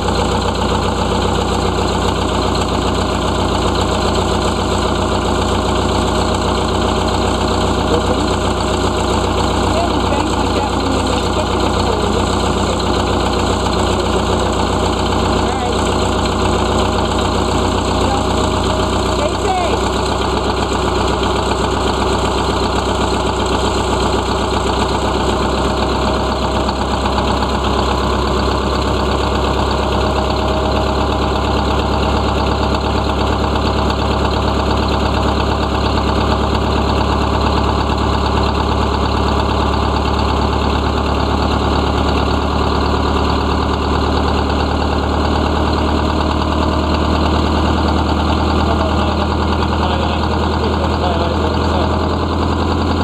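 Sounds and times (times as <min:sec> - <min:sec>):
diesel bus engine idling: 0:00.0 - 0:53.0.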